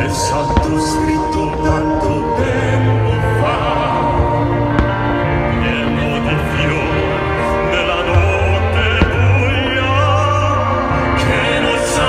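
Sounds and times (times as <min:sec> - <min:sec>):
operatic singing with orchestra: 0:00.0 - 0:12.0.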